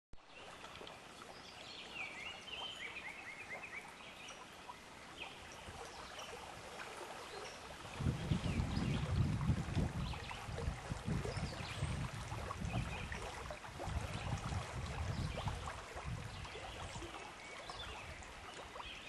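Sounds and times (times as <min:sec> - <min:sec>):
river water flowing: 0:00.2 - 0:19.0.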